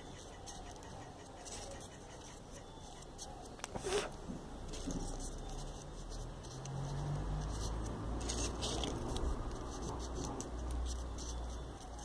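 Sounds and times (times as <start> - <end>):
paper rustling and scraping: 0.0 - 12.0.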